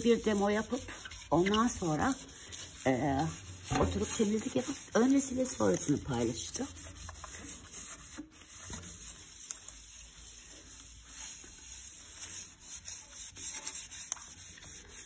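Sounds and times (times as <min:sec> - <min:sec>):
sponge scrubbing stove glass: 0:00.0 - 0:15.0.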